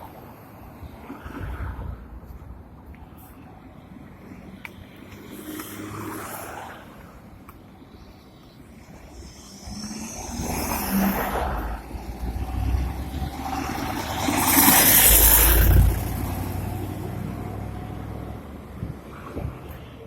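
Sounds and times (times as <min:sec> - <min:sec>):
vehicles passing by: 0:00.0 - 0:20.0.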